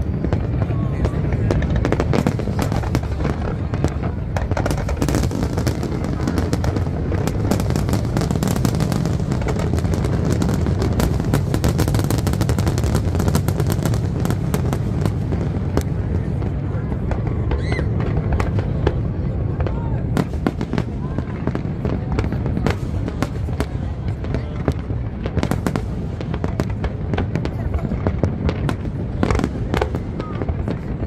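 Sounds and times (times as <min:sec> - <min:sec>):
firework cracks and pops: 0:00.0 - 0:31.0.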